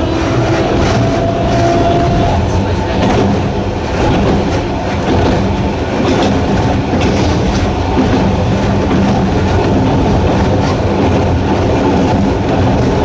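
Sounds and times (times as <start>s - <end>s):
high whine: 0.0s - 10.5s
electric train motor hum: 0.0s - 13.0s
wheels clicking over rail joints: 0.0s - 13.0s.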